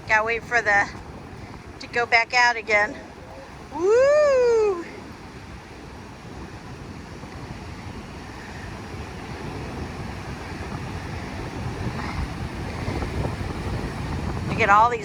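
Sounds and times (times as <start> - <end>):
surf washing over rocks: 0.0 - 15.0
wind rumbling on microphone: 0.0 - 15.0.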